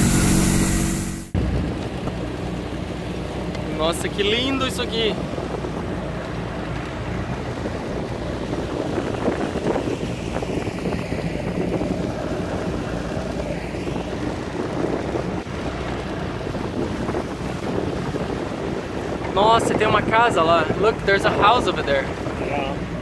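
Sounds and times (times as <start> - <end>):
motorboat engine droning: 0.0 - 23.0
water rushing past hull: 0.0 - 23.0
wind buffeting microphone: 1.4 - 23.0.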